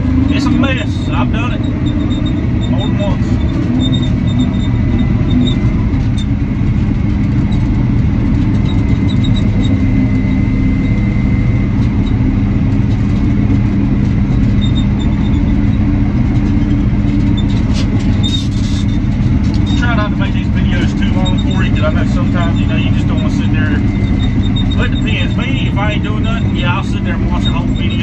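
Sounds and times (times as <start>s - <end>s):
diesel engine running under load: 0.0s - 28.0s
sharp rattles: 0.0s - 28.0s
thin steady whine: 0.0s - 28.0s.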